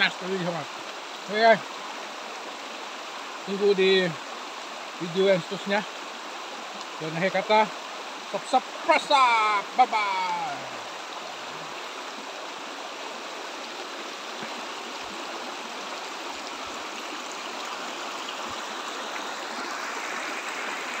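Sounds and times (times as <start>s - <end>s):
stream rushing over stones: 0.0s - 21.0s.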